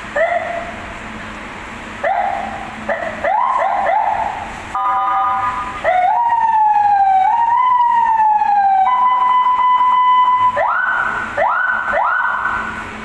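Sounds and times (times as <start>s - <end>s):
electronic vehicle siren: 2.0s - 12.8s.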